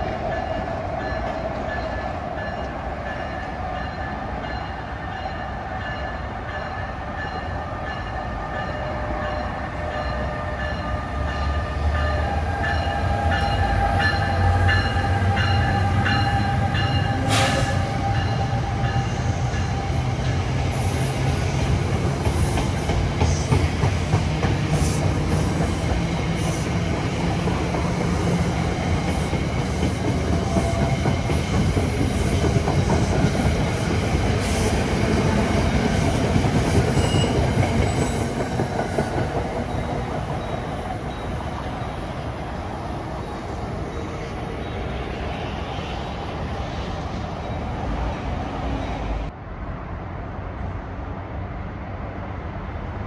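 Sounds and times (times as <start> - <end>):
electric train passing at speed: 0.0 - 53.0.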